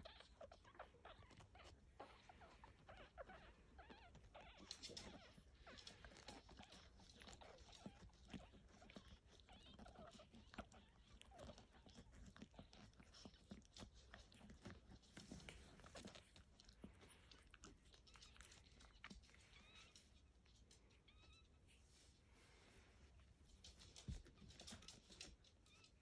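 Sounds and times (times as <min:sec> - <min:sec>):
puppy suckling: 0:00.0 - 0:21.2.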